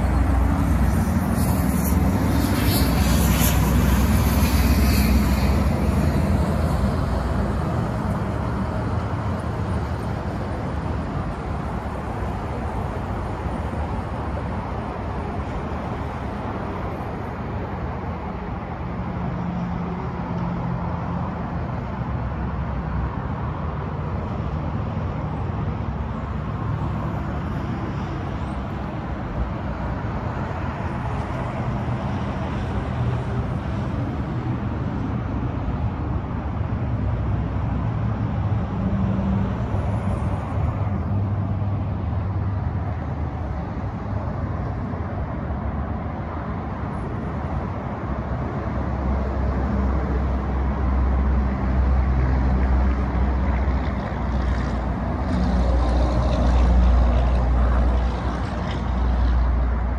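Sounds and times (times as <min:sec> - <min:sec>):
traffic rumble and hiss: 0:00.0 - 0:59.9.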